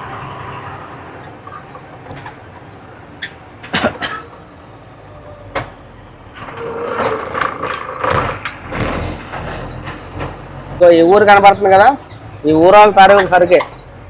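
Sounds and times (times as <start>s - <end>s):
truck engine and road hum: 0.0s - 14.0s.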